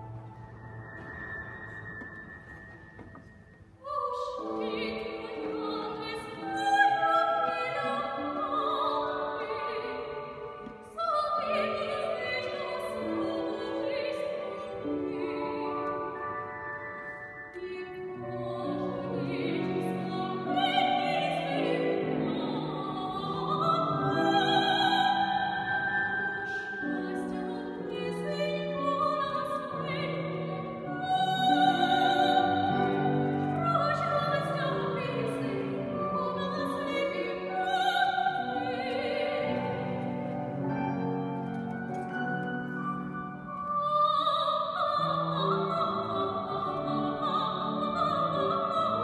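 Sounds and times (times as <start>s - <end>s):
piano accompaniment: 0.0s - 49.0s
woman singing operatically: 3.8s - 16.2s, 17.6s - 40.0s, 43.7s - 49.0s.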